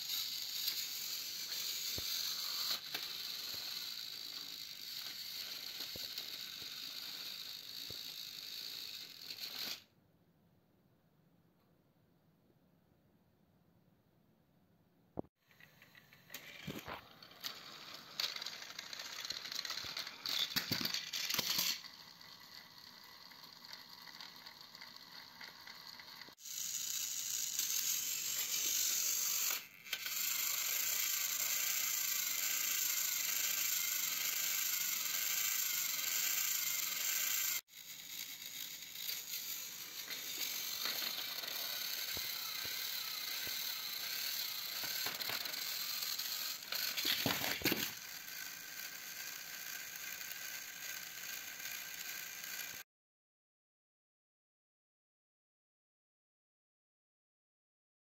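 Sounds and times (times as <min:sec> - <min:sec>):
gears rattling: 0:00.0 - 0:09.8, 0:15.5 - 0:52.8
toy train motors whirring: 0:00.0 - 0:09.9, 0:15.4 - 0:52.8.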